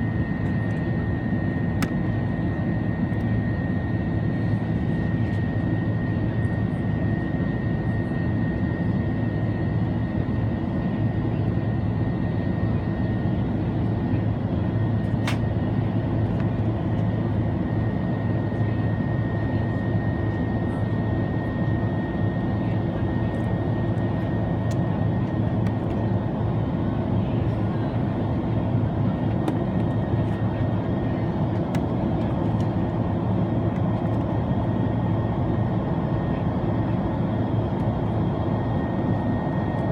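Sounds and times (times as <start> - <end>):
airplane cabin roar: 0.0 - 7.2, 12.1 - 39.9.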